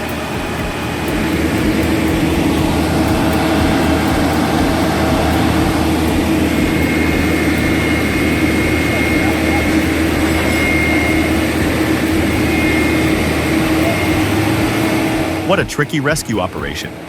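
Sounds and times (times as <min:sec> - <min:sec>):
machine engine whining: 0:00.0 - 0:17.0
thin high whine: 0:00.0 - 0:17.0.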